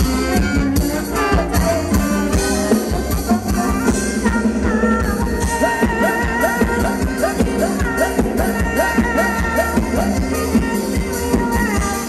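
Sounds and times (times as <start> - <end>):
live band dance music: 0.0 - 12.0
steady drum beat: 0.0 - 12.0.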